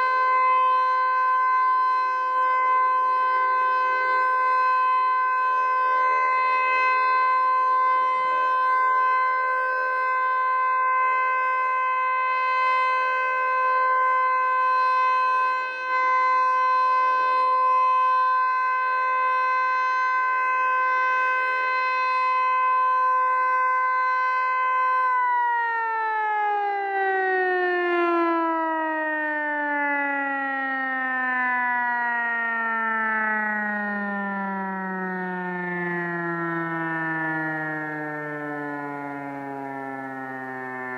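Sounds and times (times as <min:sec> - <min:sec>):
warning siren: 0:00.0 - 0:40.9.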